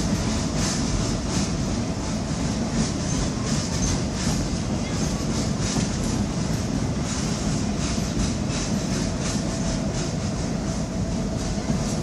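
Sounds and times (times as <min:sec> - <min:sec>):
train cars rumbling on track: 0:00.0 - 0:12.0
wheels clicking over rail joints: 0:00.0 - 0:12.0.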